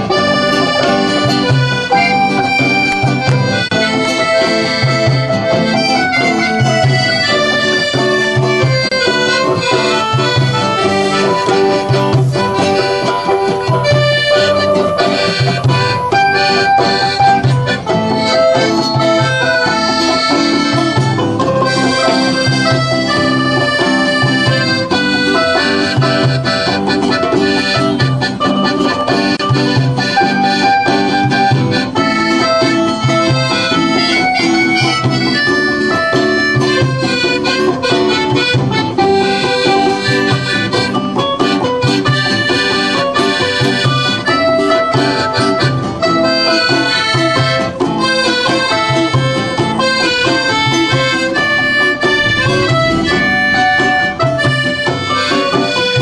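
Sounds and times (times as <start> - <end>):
instrumental music with low beat: 0.0 - 56.0.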